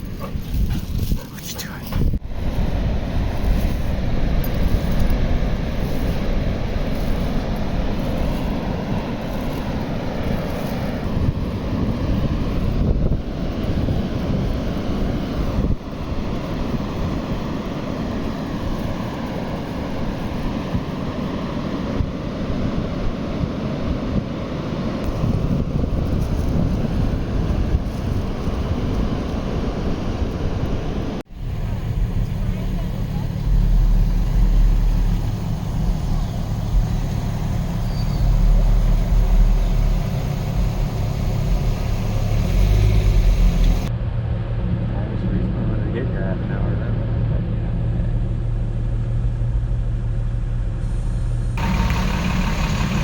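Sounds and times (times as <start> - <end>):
wind buffeting microphone: 0.0 - 49.4
engine low rumble: 0.0 - 53.0.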